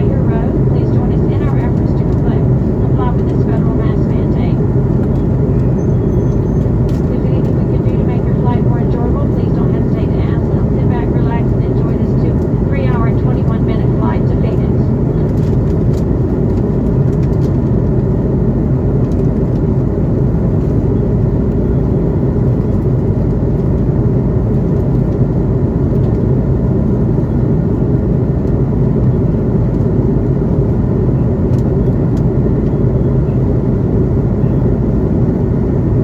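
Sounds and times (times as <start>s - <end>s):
jet engines droning: 0.0s - 36.0s.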